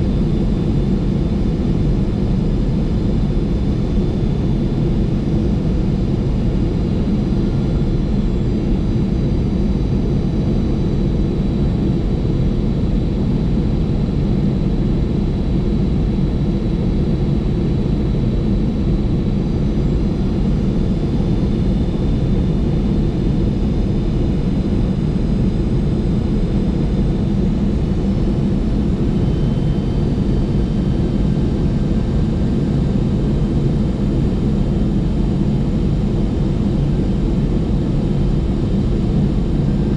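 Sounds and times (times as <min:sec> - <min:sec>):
engine and airflow hum: 0:00.0 - 0:39.9.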